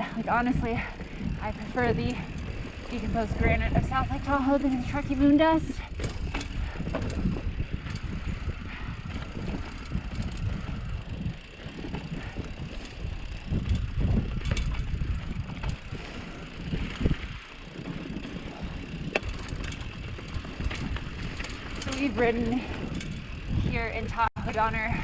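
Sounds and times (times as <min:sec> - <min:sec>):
bike clicks and knocks: 0:00.0 - 0:23.5
bike tyres rumbling over dirt: 0:00.0 - 0:25.0.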